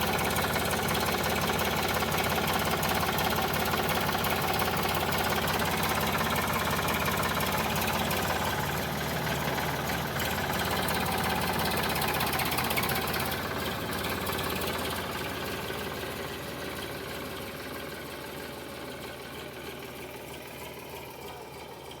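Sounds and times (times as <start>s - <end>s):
tractor diesel engine knocking: 0.0s - 22.0s.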